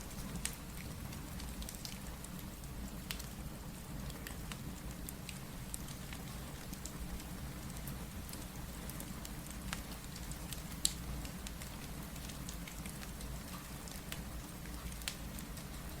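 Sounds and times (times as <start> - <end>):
fireplace crackling and popping: 0.0 - 3.4, 4.0 - 16.0.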